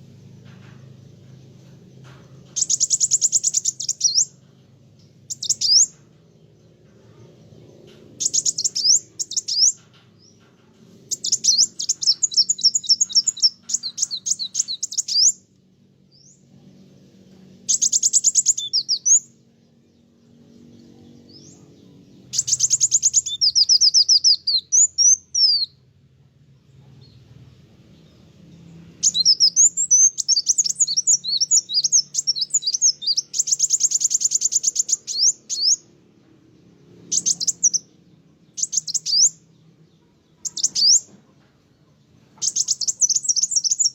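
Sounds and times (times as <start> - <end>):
sunbird chirping and trilling: 0.0 - 41.2, 42.0 - 43.9.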